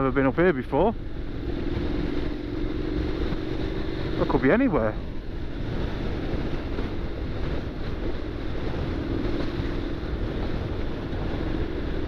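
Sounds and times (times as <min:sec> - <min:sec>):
motorcycle engine drone: 0:00.0 - 0:12.0
wind buffeting microphone: 0:00.0 - 0:12.0.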